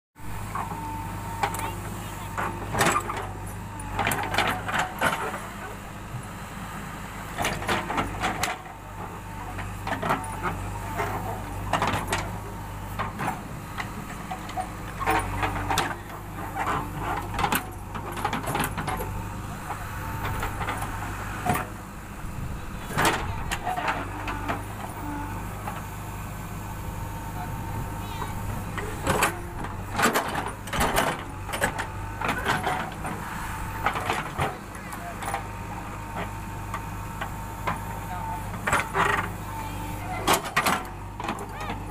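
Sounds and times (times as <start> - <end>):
diesel engine running: 0.2 - 41.9.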